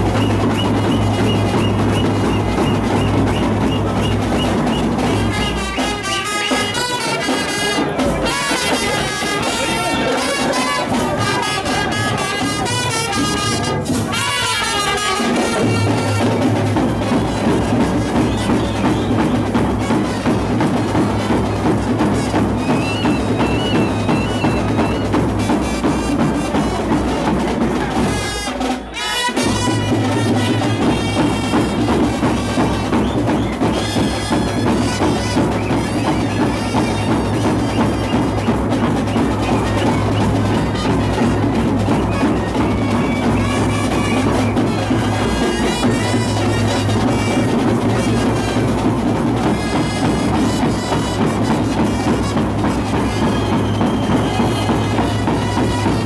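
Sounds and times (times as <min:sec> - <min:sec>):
street band playing dance beat: 0:00.0 - 0:56.0.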